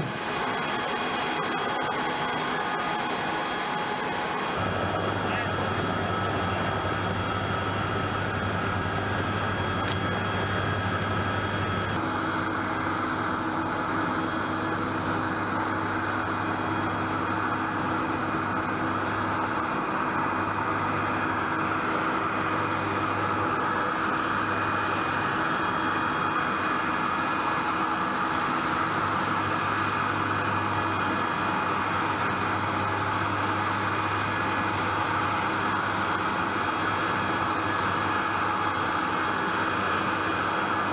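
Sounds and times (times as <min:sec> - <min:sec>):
aircraft turbine whine: 0:00.0 - 0:40.9.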